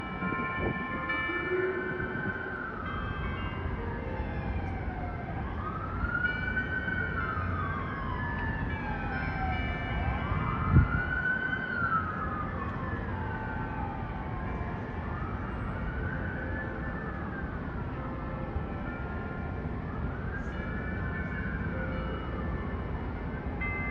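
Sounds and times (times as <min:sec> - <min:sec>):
emergency siren wailing: 0:00.0 - 0:23.9
low city rumble: 0:00.0 - 0:23.9.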